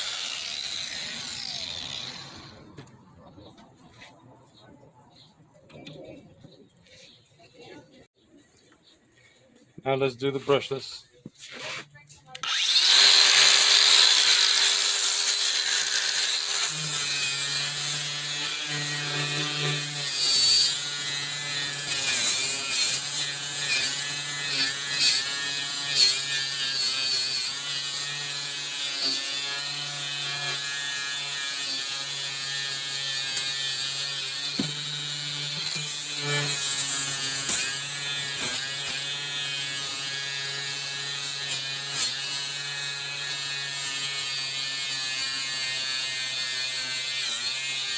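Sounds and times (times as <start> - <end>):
angle grinder grinding metal: 0.0 - 2.9, 11.4 - 47.9.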